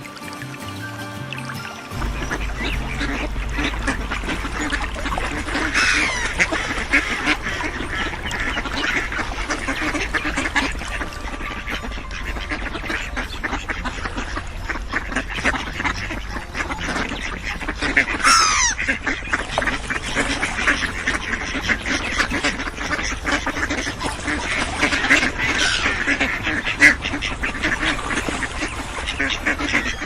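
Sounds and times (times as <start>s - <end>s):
ducks quacking: 1.6s - 30.0s
low rumble: 1.9s - 29.7s.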